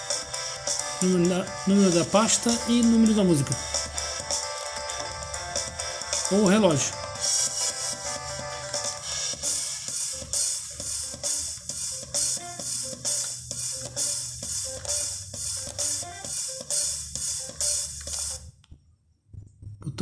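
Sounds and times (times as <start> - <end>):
music with drum beat: 0.0 - 18.4.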